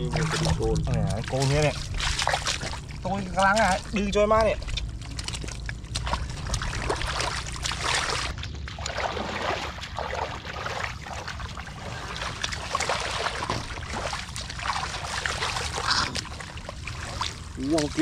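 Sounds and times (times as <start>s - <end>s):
shallow water sloshing and splashing: 0.0s - 18.0s
steady low rumble: 0.0s - 18.0s.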